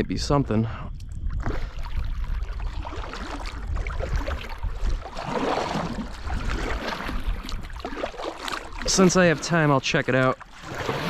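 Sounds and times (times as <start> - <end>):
paddle splashing water: 1.3 - 11.0.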